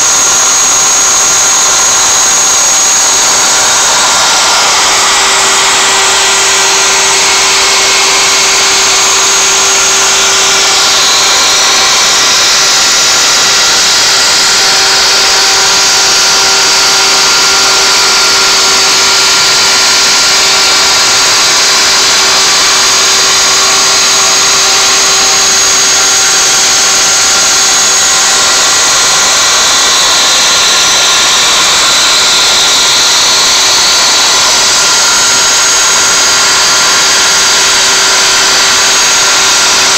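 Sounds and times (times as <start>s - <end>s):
router spindle hum and whine: 0.0s - 39.9s.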